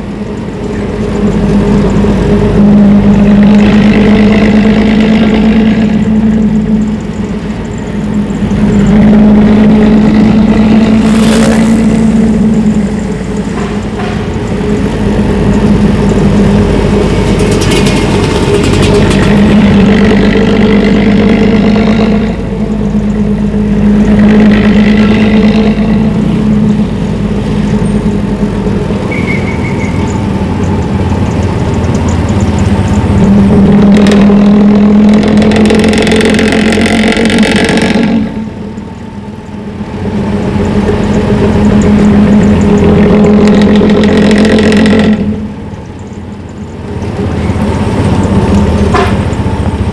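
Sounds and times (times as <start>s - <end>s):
bus diesel engine growling: 0.0s - 49.9s.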